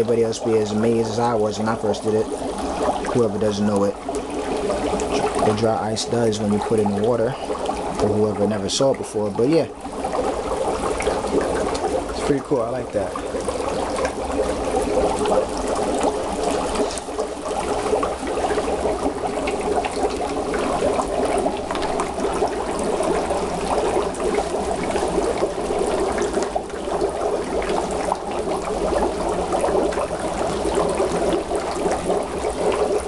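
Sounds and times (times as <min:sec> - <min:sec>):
dry ice bubbling in water: 0:00.0 - 0:33.0.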